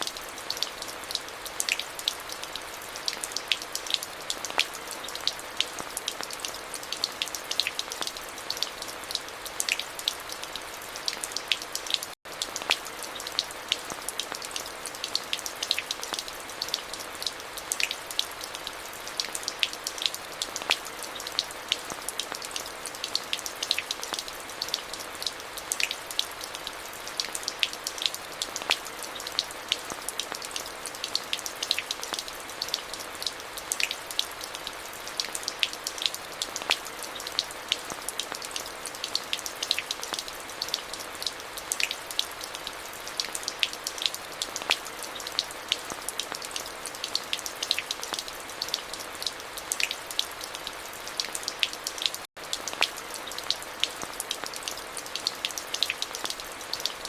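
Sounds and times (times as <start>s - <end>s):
rain drops on hard surface: 0.0s - 57.0s
steady rain hiss: 0.0s - 57.0s.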